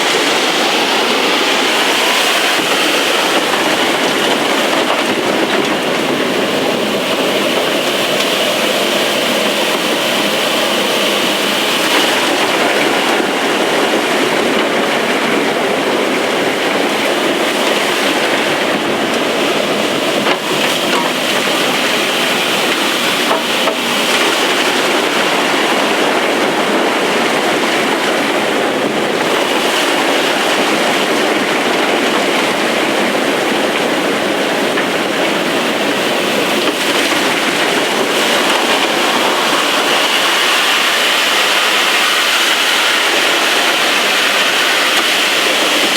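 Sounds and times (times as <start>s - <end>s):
blower suction: 0.0s - 28.0s, 33.4s - 45.9s.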